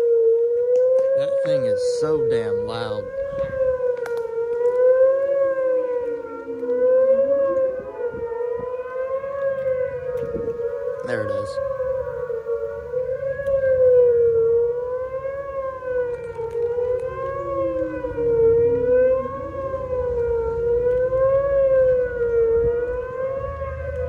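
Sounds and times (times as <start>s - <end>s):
faint siren winding down: 0.0s - 24.0s
warning siren steady tone: 0.0s - 24.0s.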